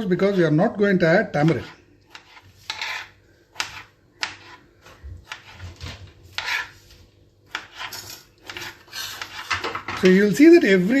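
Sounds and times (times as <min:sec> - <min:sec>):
kitchen utensils scraping and knocking: 0:01.3 - 0:11.0.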